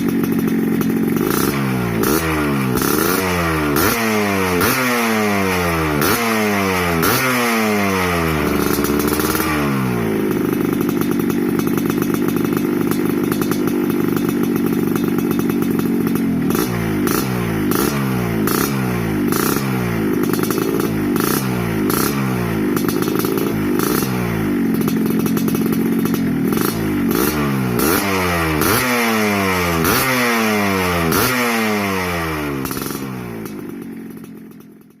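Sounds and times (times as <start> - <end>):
two-stroke motorcycle revving: 0.0 - 35.0.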